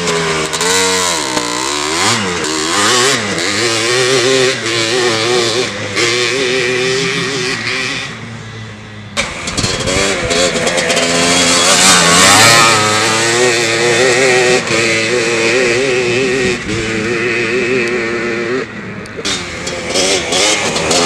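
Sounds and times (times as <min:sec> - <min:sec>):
two-stroke engine revving: 0:00.0 - 0:21.0.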